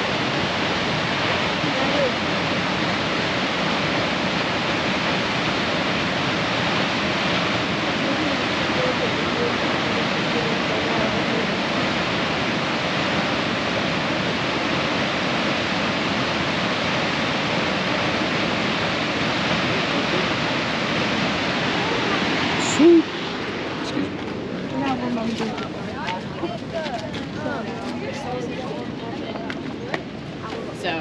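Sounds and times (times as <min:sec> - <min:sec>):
waterfall roar: 0:00.0 - 0:31.0.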